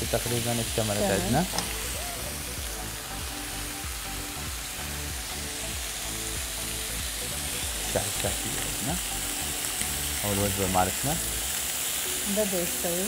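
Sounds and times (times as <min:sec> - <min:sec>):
skewers sizzling in a frying pan: 0:00.0 - 0:13.0.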